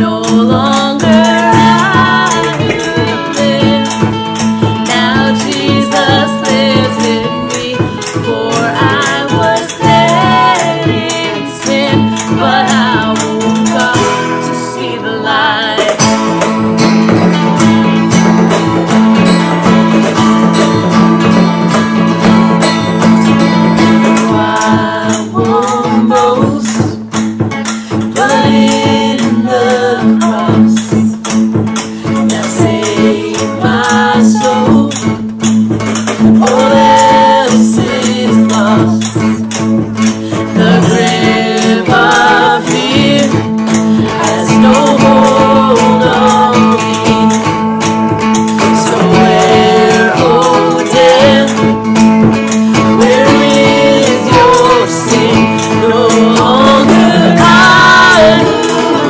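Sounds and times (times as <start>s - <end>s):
drum kit beat: 0.0s - 14.7s, 15.3s - 59.0s
acoustic guitar strumming: 0.0s - 59.0s
voices singing: 0.0s - 59.0s.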